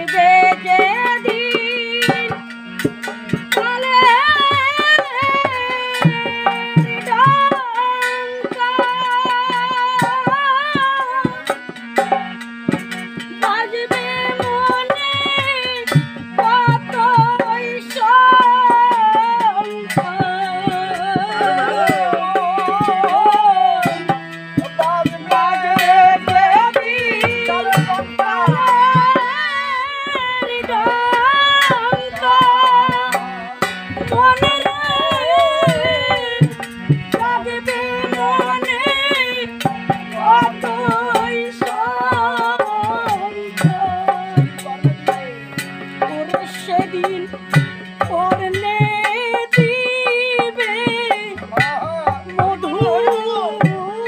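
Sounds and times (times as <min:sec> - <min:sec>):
woman singing: 0:00.0 - 0:12.2, 0:13.1 - 0:54.0
drum accompaniment: 0:00.0 - 0:54.0.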